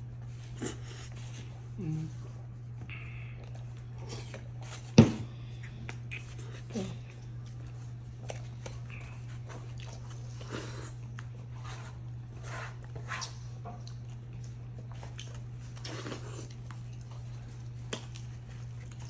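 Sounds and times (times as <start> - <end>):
low hum: 0.0 - 19.0
chewing and mouth noises: 0.2 - 4.8, 5.4 - 19.0.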